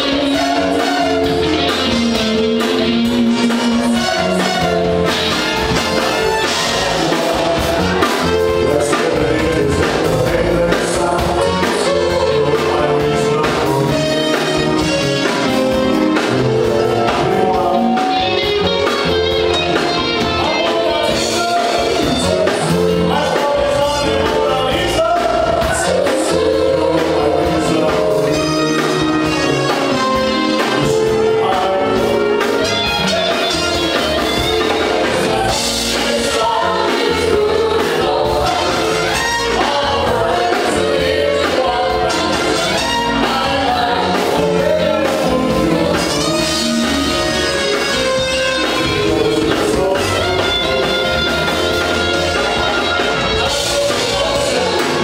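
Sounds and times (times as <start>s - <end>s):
man singing: 0.0s - 5.1s, 6.4s - 19.2s, 19.8s - 55.0s
live band playing: 0.0s - 55.0s.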